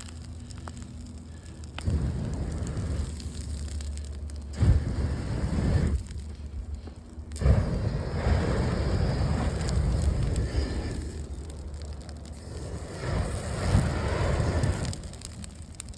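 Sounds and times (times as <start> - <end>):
flamethrower blasts: 0.0 - 15.9.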